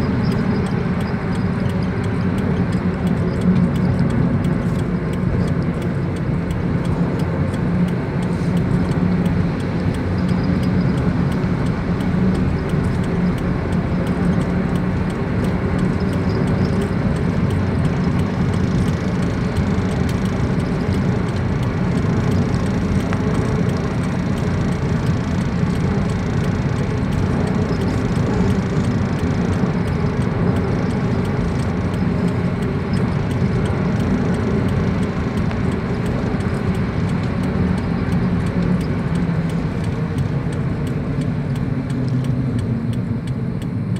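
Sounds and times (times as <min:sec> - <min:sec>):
car driving in wind: 0:00.0 - 0:43.9.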